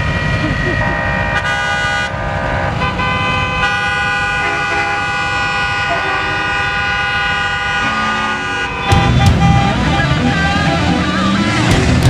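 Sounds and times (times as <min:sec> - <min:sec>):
low rumble of traffic: 0:00.0 - 0:12.0
vehicle horns honking: 0:00.0 - 0:12.0.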